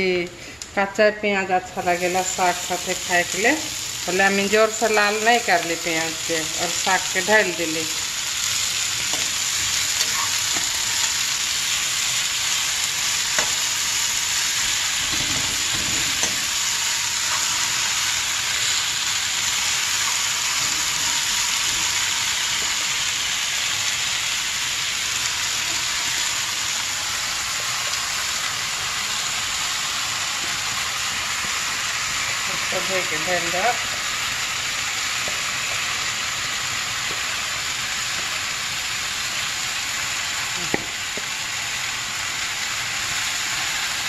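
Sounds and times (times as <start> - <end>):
greens sizzling in hot oil: 1.6 - 44.0.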